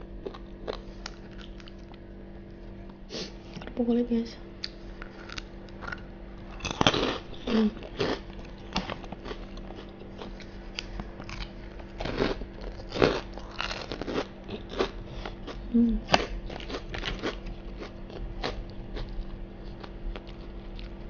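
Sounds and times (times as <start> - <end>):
crunchy food chewing: 0.0 - 3.7, 4.6 - 21.0.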